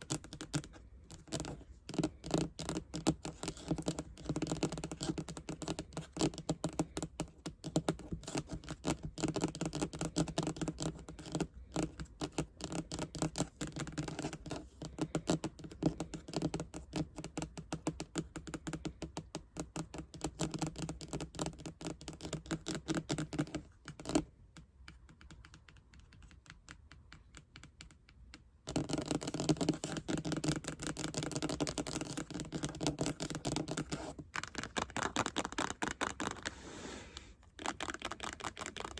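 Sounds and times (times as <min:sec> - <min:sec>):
fast asmr tapping: 0:00.0 - 0:38.9.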